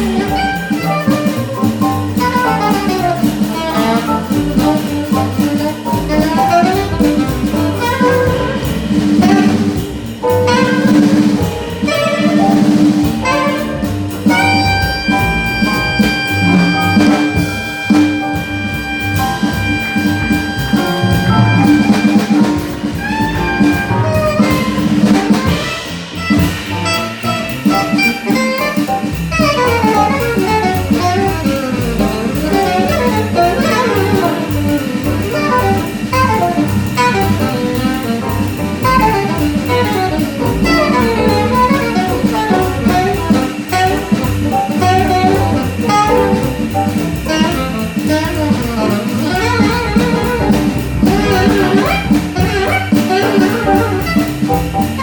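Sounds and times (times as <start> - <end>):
small jazz band playing bebop: 0.0 - 55.0.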